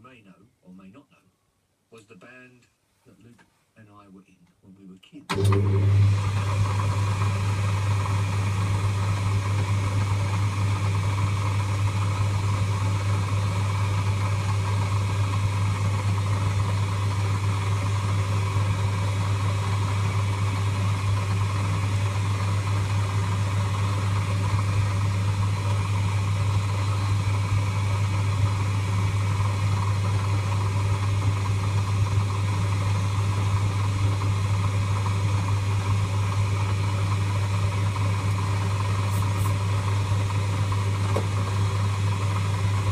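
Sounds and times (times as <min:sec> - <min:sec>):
lathe motor humming and whirring: 0:05.3 - 0:42.9.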